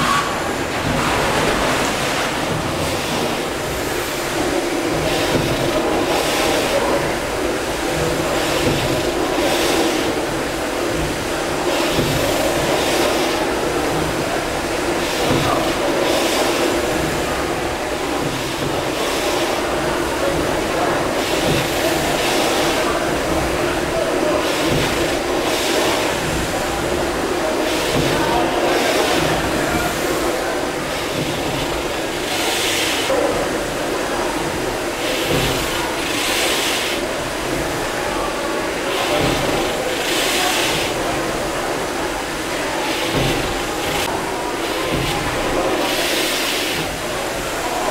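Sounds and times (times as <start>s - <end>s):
steam engines running: 0.0s - 47.9s
steam hissing: 0.0s - 47.9s.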